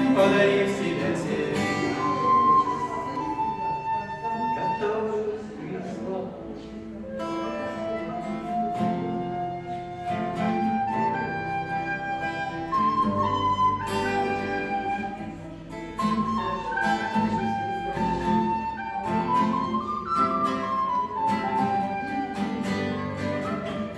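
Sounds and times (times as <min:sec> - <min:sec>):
flute-like melody: 0:00.0 - 0:23.9.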